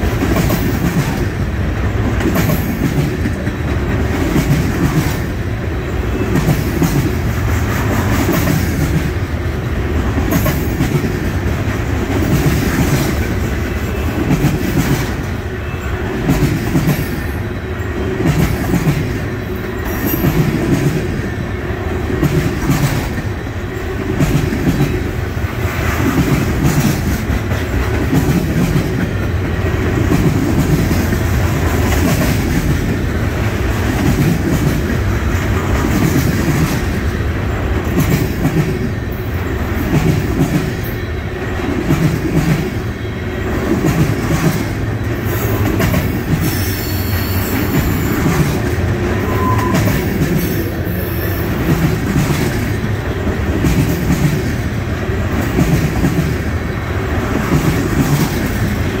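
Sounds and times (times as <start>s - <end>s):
freight train wheels clacking on rails: 0.0s - 59.0s.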